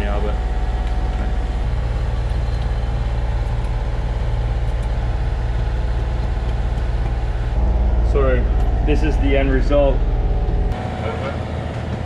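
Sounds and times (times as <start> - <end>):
boat diesel engine humming: 0.0 - 12.0.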